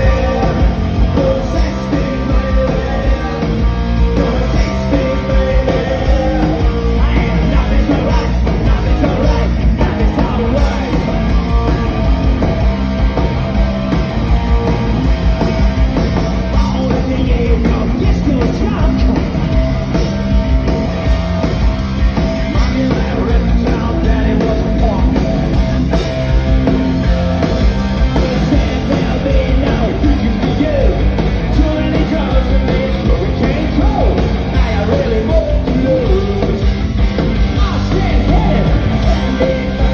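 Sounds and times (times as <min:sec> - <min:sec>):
punk rock band playing loud: 0:00.0 - 0:39.9.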